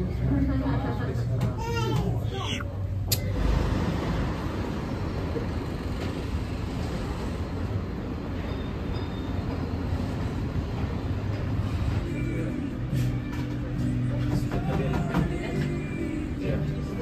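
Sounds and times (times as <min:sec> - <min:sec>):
traffic rumble: 0:00.0 - 0:14.6.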